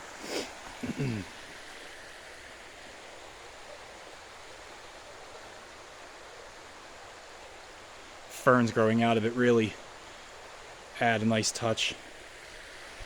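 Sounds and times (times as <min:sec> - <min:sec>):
creek flowing: 0:00.0 - 0:13.0.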